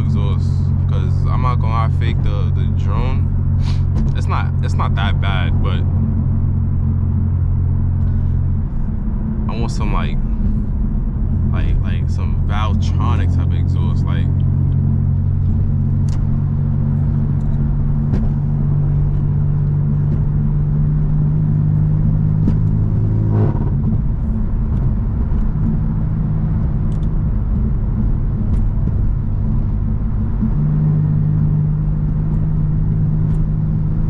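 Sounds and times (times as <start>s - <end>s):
car exhaust drone from cabin: 0.0s - 34.0s.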